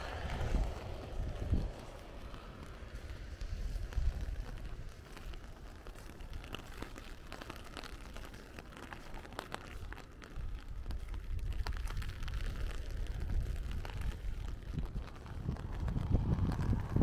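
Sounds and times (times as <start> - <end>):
rain on an umbrella: 0.0 - 17.0
wind rumbling on microphone: 0.0 - 17.0.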